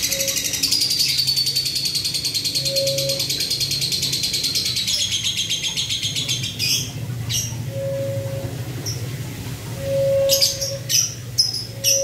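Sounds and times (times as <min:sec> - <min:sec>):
bird chirps: 0:00.0 - 0:09.0, 0:09.8 - 0:12.0.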